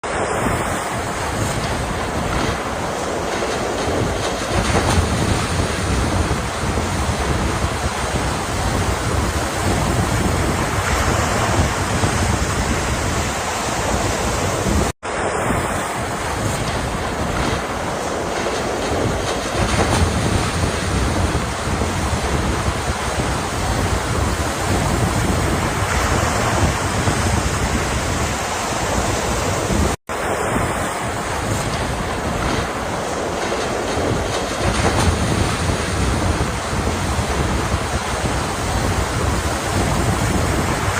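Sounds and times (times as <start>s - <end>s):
ocean surf washing: 0.0s - 40.9s.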